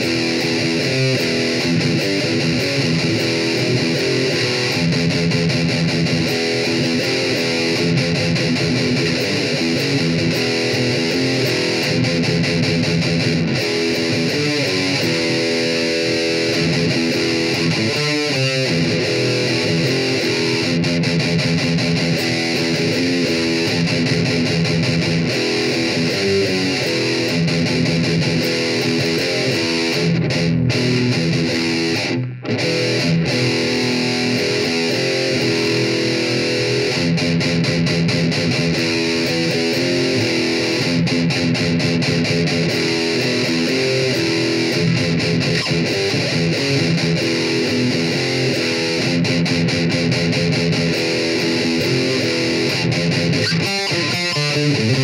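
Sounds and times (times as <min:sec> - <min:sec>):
electric guitar riff: 0:00.0 - 0:55.0.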